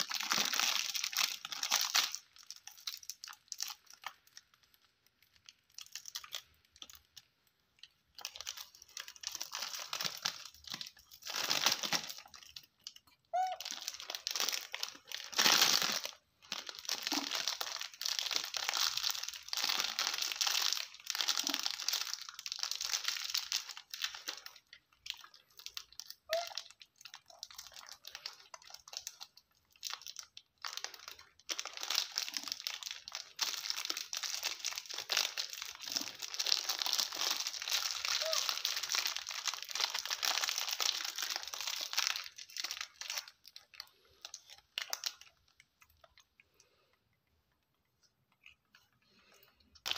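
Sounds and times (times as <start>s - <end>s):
plastic wrapper crinkling: 0.0s - 46.8s, 47.7s - 49.9s.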